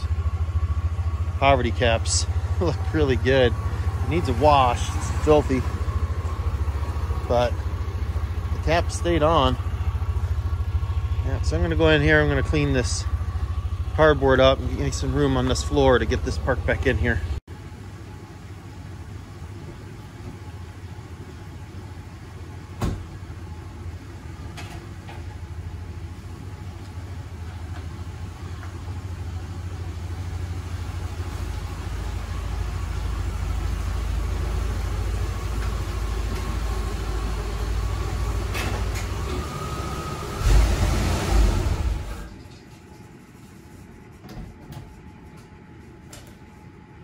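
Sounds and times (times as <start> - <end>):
pickup engine rumbling: 0.0 - 43.3.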